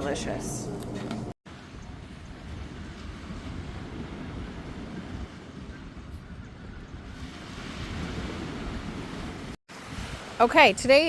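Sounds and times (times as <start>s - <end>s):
wind buffeting the microphone: 1.5s - 11.0s.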